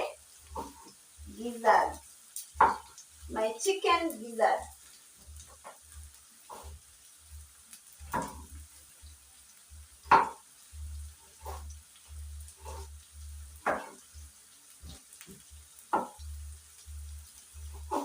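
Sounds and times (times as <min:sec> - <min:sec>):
food sizzling: 0:00.0 - 0:18.0.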